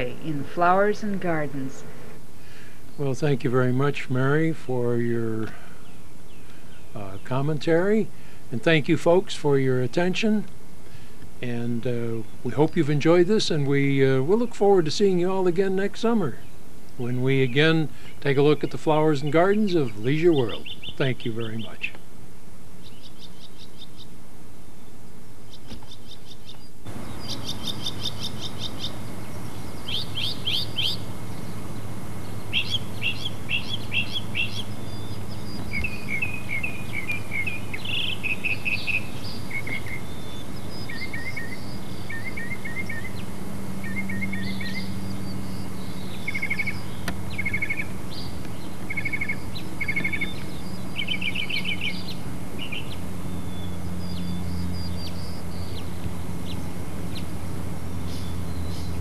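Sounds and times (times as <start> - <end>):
steady low hum: 0.0 - 59.0
songbird chirping and singing: 2.9 - 8.1, 11.4 - 22.0, 22.8 - 57.4, 58.0 - 59.0.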